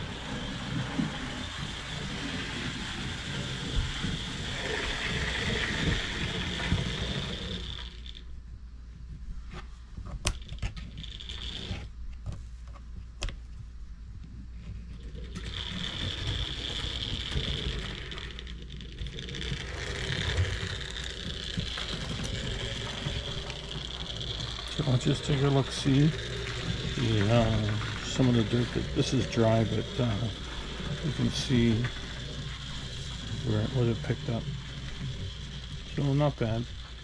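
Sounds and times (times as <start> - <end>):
model train motor whirring: 0.0 - 8.2, 15.0 - 37.0
wheels rattling over rails: 0.0 - 8.2, 15.0 - 37.0.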